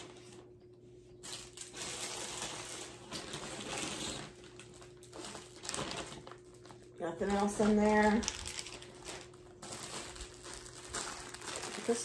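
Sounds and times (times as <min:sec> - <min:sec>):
plastic bag rustling and crinkling: 0:00.0 - 0:12.0.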